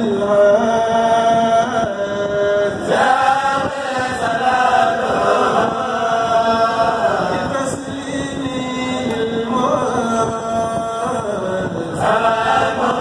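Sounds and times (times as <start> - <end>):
men chanting through microphones: 0.0 - 13.0.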